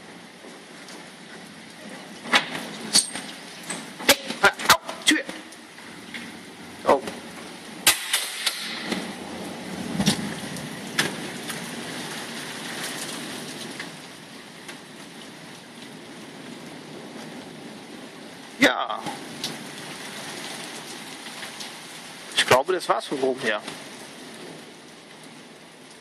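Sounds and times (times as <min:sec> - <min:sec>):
rain on pavement and cars: 0:00.0 - 0:26.0.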